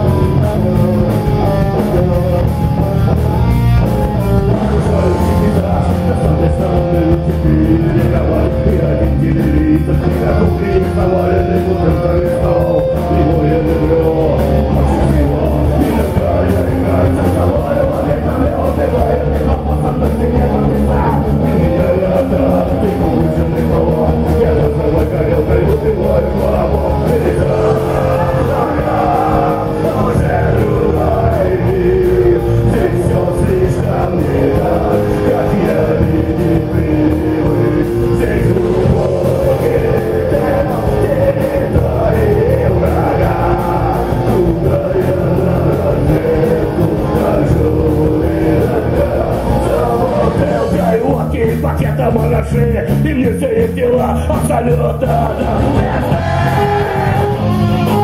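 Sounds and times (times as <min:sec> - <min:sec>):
bass: 0:00.0 - 0:58.0
drums: 0:00.0 - 0:58.0
electric guitars: 0:00.0 - 0:58.0
singing: 0:00.0 - 0:58.0.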